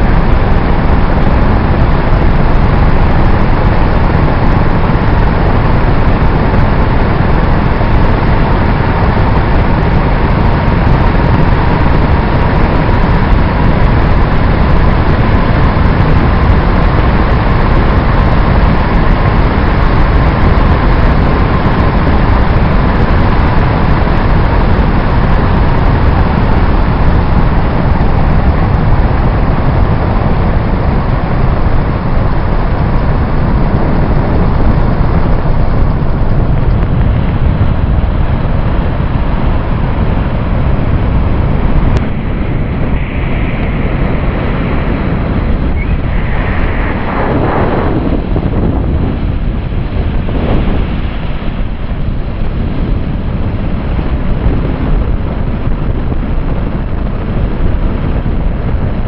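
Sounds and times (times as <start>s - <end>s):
airplane engine drone: 0.0s - 59.0s
faint steady whine: 0.0s - 59.0s
wind rushing over microphone: 0.0s - 59.0s.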